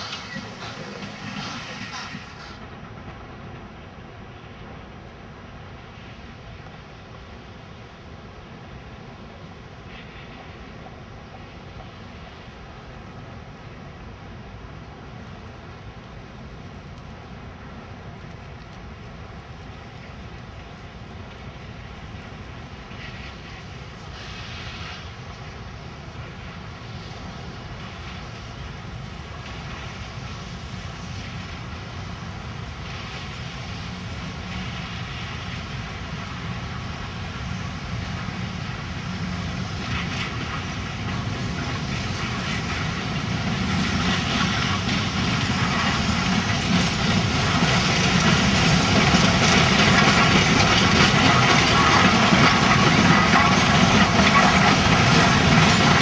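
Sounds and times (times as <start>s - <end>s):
steam freight train approaching: 0.0s - 56.0s.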